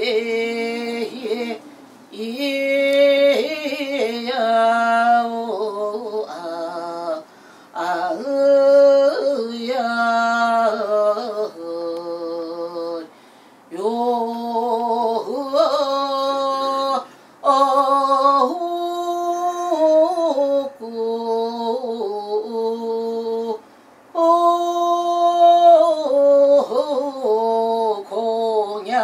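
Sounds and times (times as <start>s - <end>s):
person singing slow melody: 0.0s - 29.0s.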